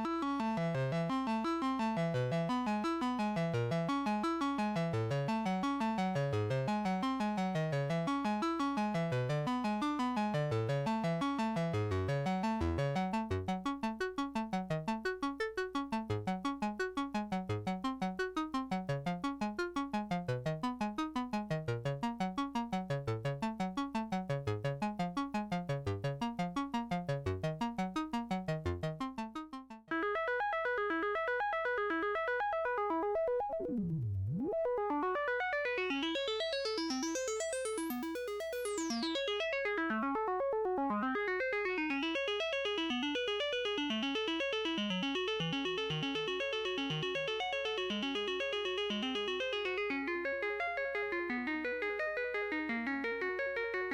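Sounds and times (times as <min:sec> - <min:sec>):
synthesizer sequenced notes: 0:00.0 - 0:53.9.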